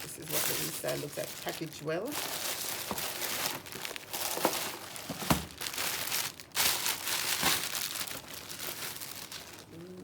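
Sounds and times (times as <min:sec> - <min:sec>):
tissue paper rustling and crinkling: 0:00.0 - 0:09.8.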